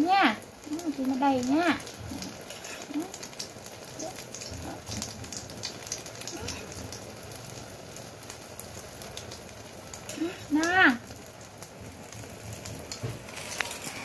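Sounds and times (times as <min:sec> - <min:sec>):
food frying in oil: 0:00.0 - 0:14.0.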